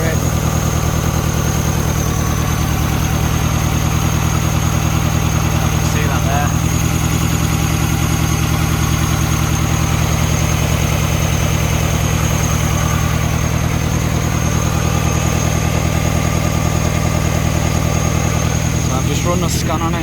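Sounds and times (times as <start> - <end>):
petrol engine idling roughly: 0.0 - 20.0.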